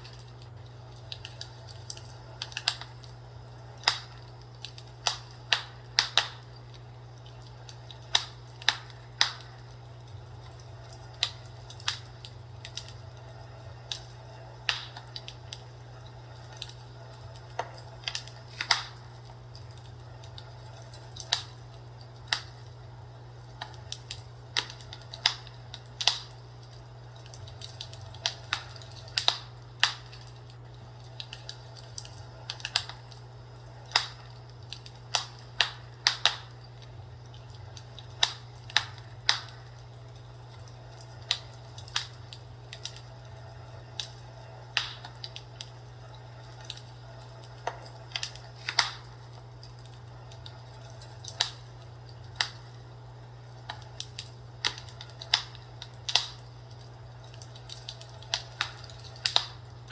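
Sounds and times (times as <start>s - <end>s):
fireplace crackling: 0.0s - 59.9s
steady low hum: 0.0s - 59.9s.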